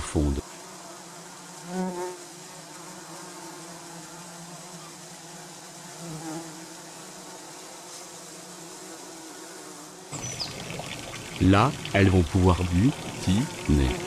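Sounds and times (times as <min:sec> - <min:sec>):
bumblebees buzzing: 0:00.0 - 0:14.0.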